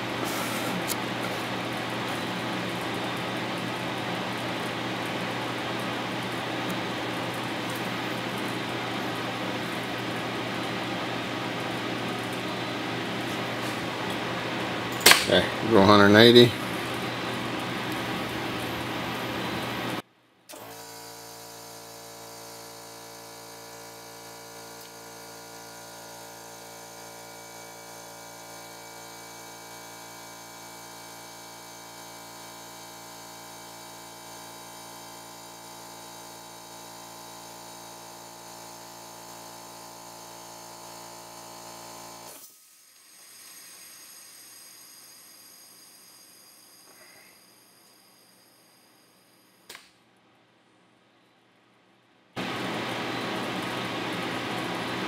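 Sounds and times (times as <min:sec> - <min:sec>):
electric motor hum with whine: 0:00.0 - 0:49.7, 0:52.4 - 0:55.0.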